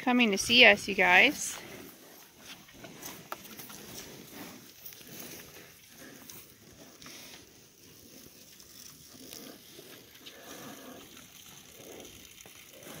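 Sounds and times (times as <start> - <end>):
cattle milling around: 0.0 - 13.0.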